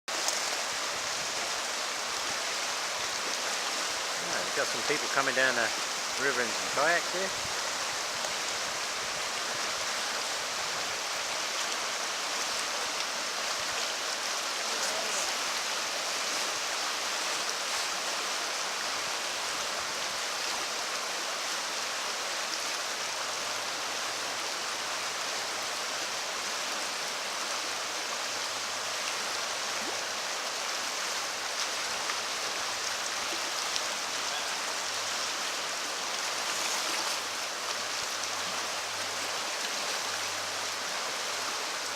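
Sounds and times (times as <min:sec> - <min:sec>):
river water rushing: 0:00.1 - 0:41.9.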